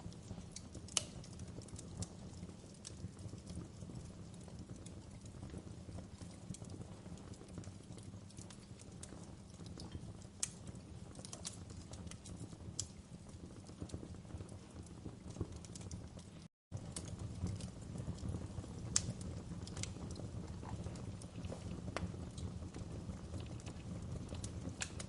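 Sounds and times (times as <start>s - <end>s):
burning logs popping: 0.0s - 25.0s
wood fire crackling: 0.0s - 25.0s.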